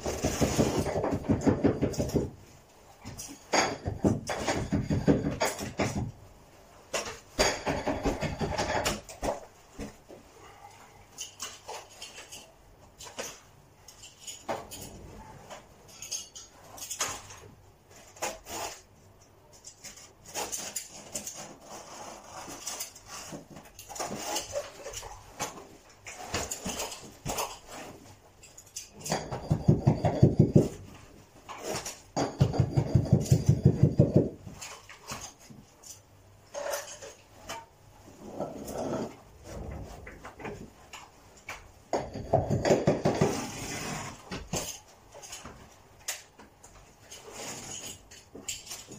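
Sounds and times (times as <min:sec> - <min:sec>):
tools scraping and tapping carpet: 0:00.0 - 0:06.2, 0:06.9 - 0:48.9.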